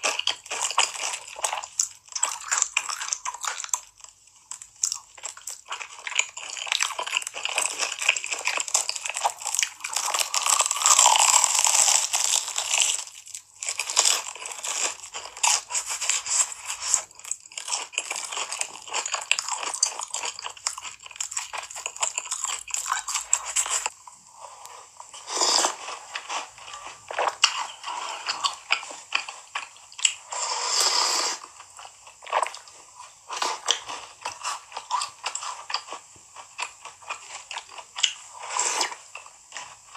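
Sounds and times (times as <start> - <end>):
crunchy biting and chewing: 0.0 - 24.0, 25.0 - 39.9.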